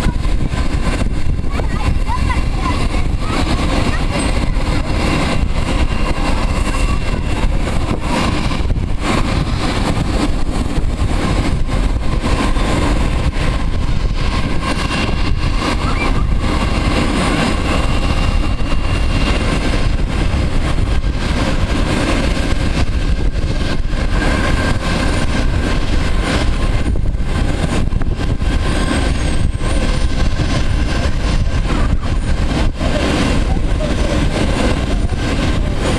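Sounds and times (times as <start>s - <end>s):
jet engines rumbling: 0.0s - 35.9s.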